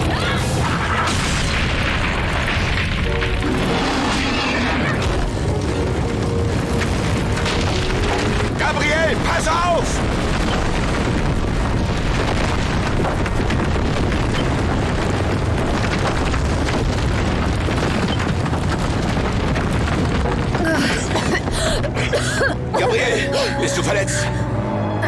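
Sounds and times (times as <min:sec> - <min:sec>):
rocks and rubble crashing: 0:00.0 - 0:24.4.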